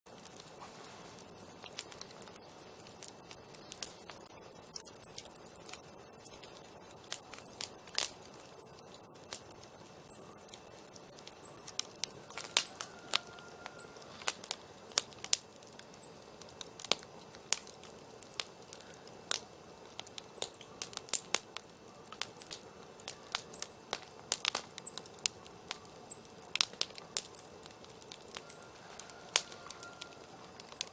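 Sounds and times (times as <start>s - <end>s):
wood fire crackling and popping: 0.1s - 30.9s.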